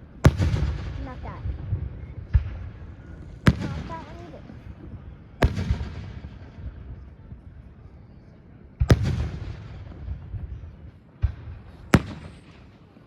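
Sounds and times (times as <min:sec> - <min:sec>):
fireworks booming: 0:00.0 - 0:07.0, 0:08.8 - 0:13.0.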